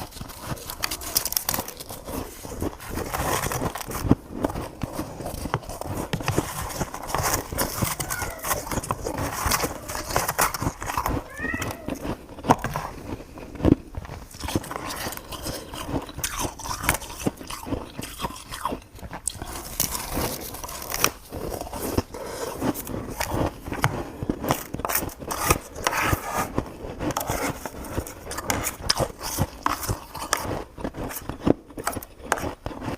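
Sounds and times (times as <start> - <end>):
crunching and crackling clicks: 0.0 - 32.9.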